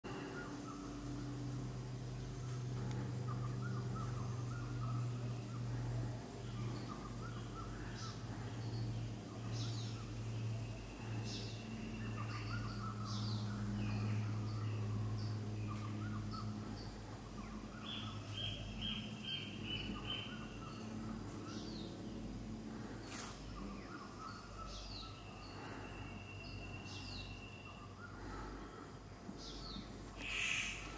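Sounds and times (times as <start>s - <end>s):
low steady hum: 0.0s - 30.9s
birds chirping and whistling: 2.3s - 30.9s.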